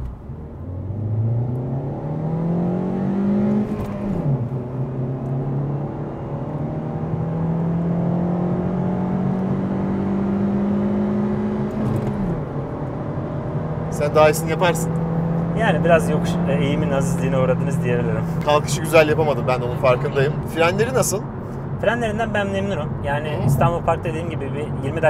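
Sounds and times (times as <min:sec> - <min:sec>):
car engine at full throttle: 0:00.0 - 0:25.0.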